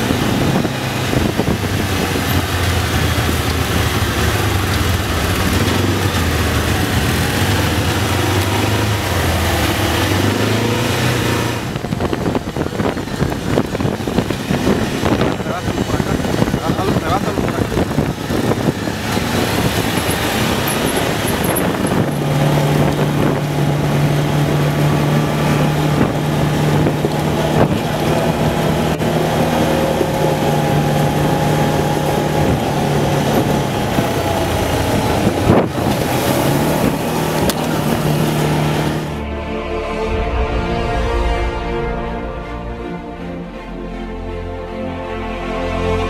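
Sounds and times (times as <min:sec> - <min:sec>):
wind and tyre noise: 0:00.0 - 0:43.6
vehicle engine humming: 0:00.0 - 0:45.0.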